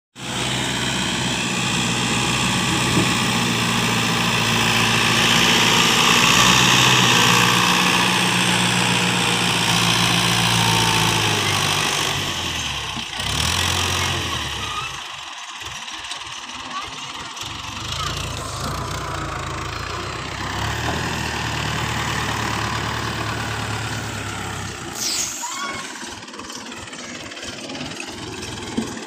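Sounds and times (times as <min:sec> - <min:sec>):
tractor diesel engine running: 0:00.2 - 0:29.0.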